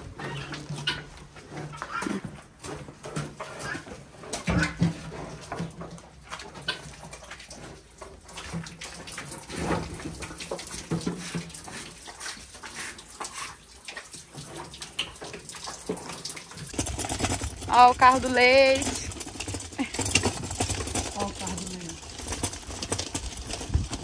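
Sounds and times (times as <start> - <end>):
ox chewing and crunching feed: 0.0 - 24.0.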